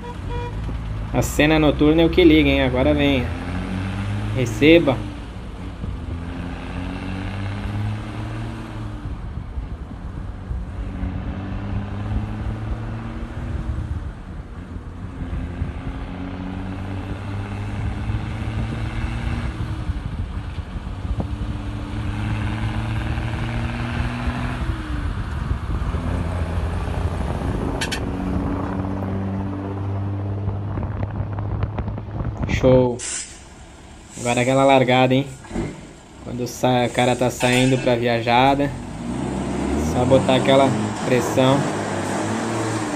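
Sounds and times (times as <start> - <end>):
truck accelerating through gears: 0.0 - 42.9.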